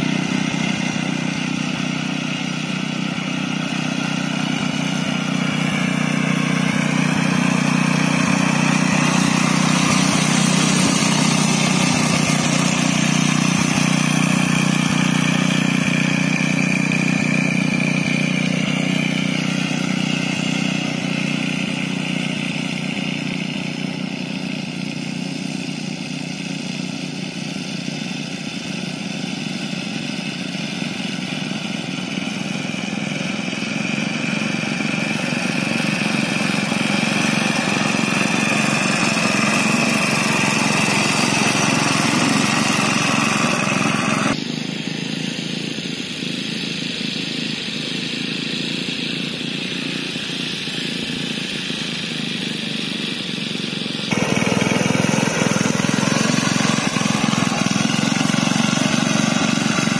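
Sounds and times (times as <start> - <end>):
lawn mower engines running: 0.0 - 59.9.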